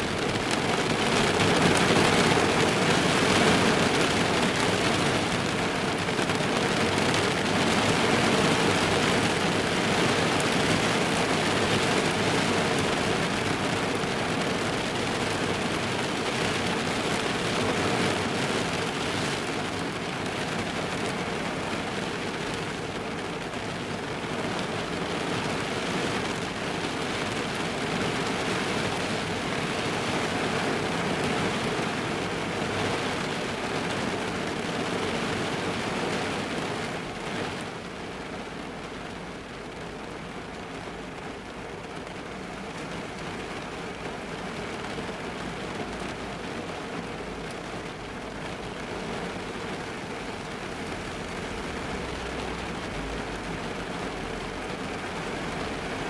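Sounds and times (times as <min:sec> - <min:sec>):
rain drumming on car roof: 0:00.0 - 0:56.0.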